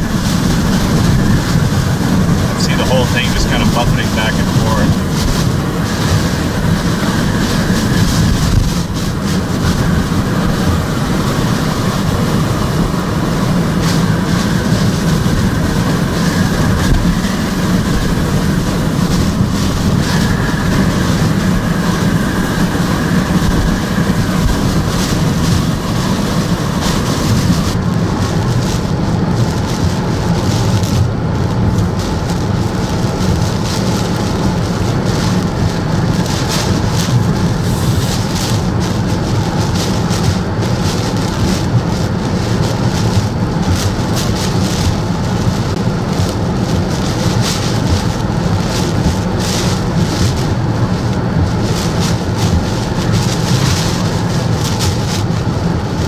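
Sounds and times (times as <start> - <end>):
strong wind blowing: 0.0 - 56.0.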